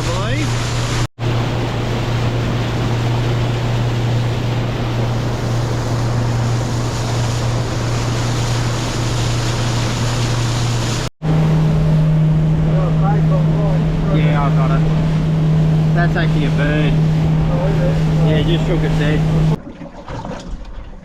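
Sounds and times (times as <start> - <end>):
motorboat engine running: 0.0 - 19.6
water rushing past: 0.0 - 21.0.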